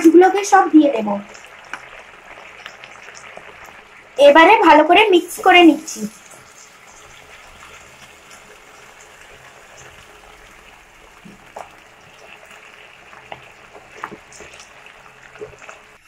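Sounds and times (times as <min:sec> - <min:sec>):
sauce simmering in a pan: 0:00.0 - 0:16.0.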